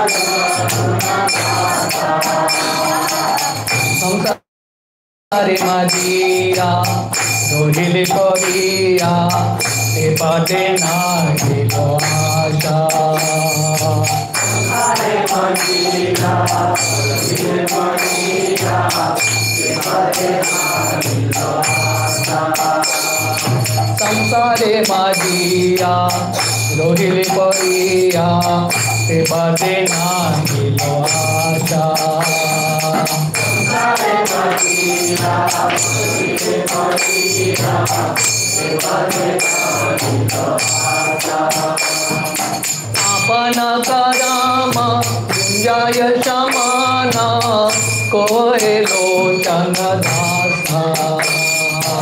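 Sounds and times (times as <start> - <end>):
hand cymbals striking: 0.0 - 4.4, 5.4 - 52.0
people singing: 0.0 - 4.4, 5.3 - 52.0.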